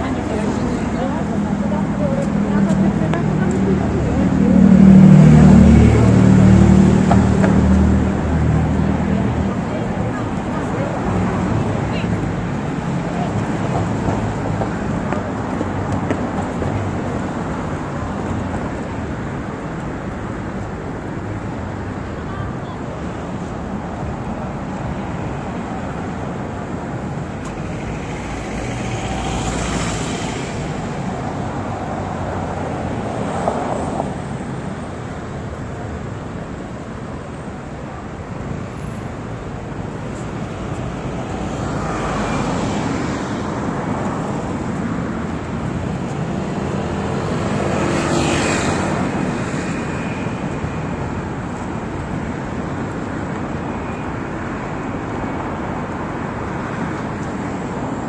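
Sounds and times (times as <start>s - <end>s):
traffic rumble: 0.0s - 58.0s
vehicles passing close by: 0.0s - 58.0s.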